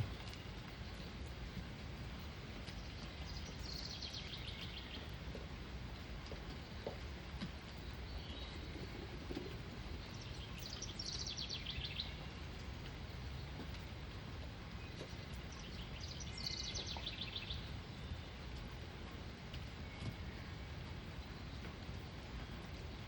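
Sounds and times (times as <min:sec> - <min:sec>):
songbird singing: 0:00.0 - 0:22.9
low outdoor rumble: 0:00.0 - 0:23.0.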